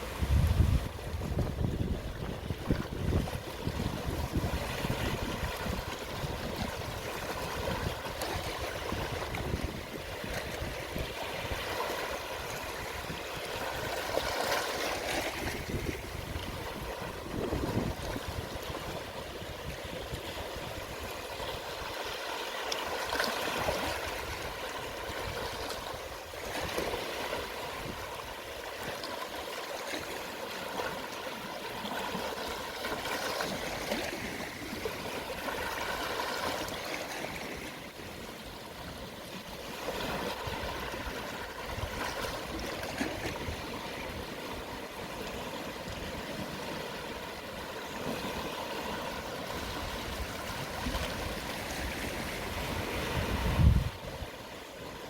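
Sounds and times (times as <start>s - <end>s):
small waves washing onto shore: 0.0s - 55.0s.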